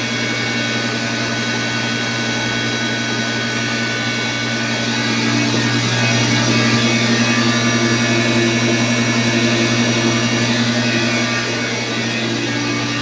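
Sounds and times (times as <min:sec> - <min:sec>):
water pump motor humming: 0:00.0 - 0:13.0.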